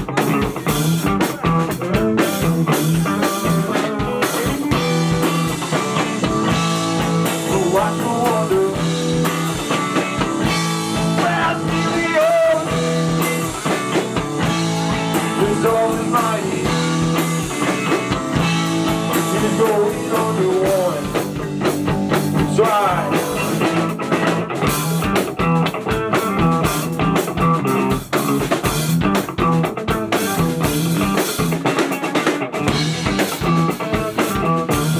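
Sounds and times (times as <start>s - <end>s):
bass line: 0.0s - 31.8s, 32.6s - 34.9s
drum kit: 0.0s - 34.9s
electric guitar lines: 0.0s - 34.9s.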